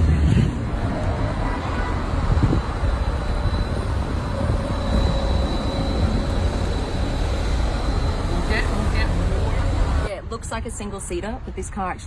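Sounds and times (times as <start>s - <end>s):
car road and wind rumble: 0.0s - 12.0s.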